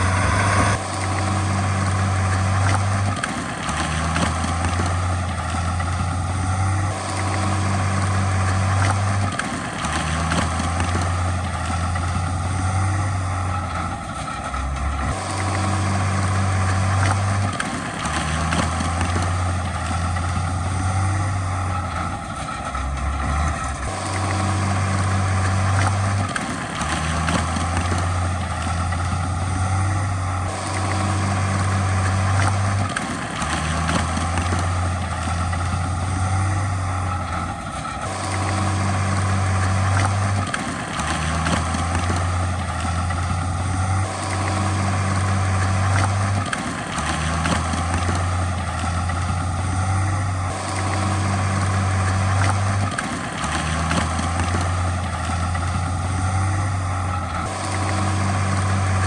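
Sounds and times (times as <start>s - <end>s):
deep low drone: 0.0s - 59.0s
heavy diesel machinery running: 0.0s - 59.0s.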